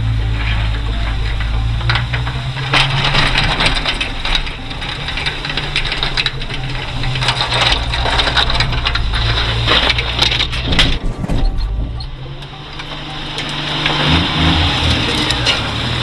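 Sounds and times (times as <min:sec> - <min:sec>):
plow blade scraping snow: 0:00.0 - 0:16.0
truck engine droning: 0:00.0 - 0:16.0.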